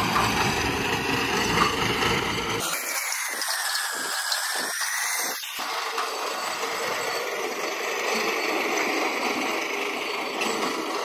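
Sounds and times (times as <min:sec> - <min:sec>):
piling rig machinery drone: 0:00.0 - 0:11.0.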